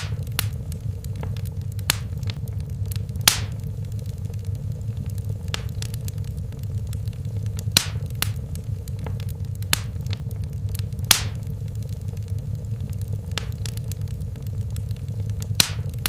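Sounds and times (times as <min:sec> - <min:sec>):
fire crackles and pops: 0:00.0 - 0:16.0
fireplace fire rumbling: 0:00.0 - 0:16.0.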